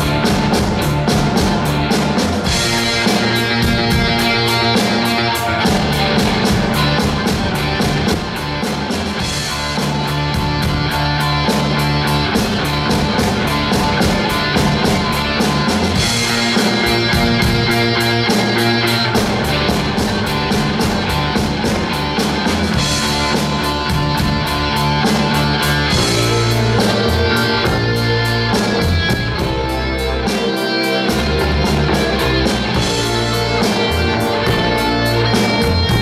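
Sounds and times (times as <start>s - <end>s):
bass guitar: 0.0s - 36.0s
electric guitars: 0.0s - 36.0s
keyboard: 0.0s - 36.0s
rock band playing live: 0.0s - 36.0s.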